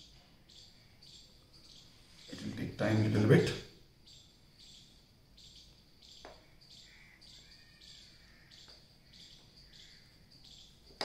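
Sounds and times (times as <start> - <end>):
faint high-pitched chirping: 0.0 - 11.0.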